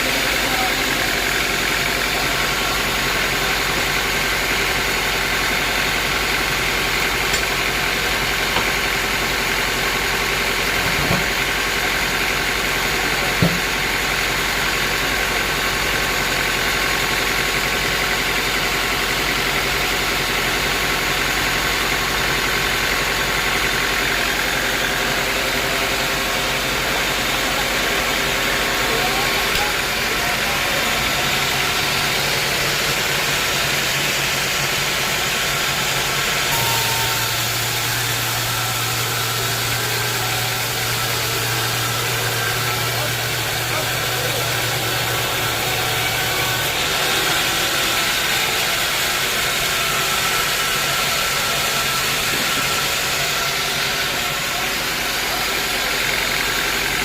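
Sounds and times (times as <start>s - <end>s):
sawmill machinery humming: 0.0s - 57.0s.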